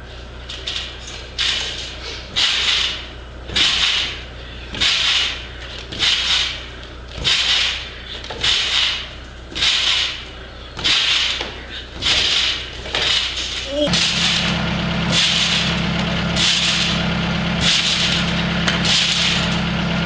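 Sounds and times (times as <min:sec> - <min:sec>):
steady low hum: 0:00.0 - 0:20.0
trampoline springs creaking: 0:00.4 - 0:20.0.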